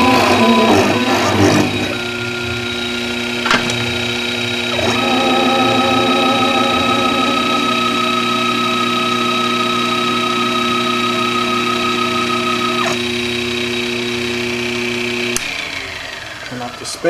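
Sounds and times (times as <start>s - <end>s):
milling machine whining: 0.0s - 17.0s.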